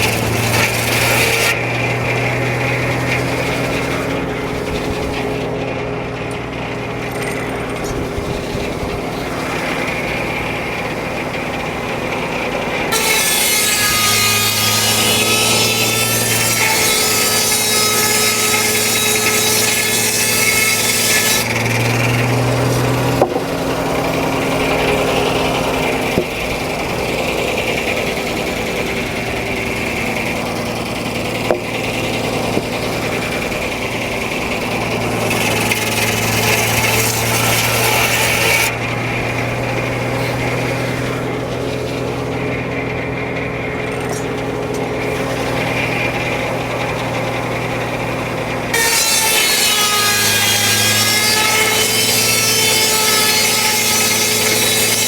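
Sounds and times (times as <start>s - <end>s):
circular saw cutting log: 0.0s - 55.0s
engine droning: 0.0s - 55.0s.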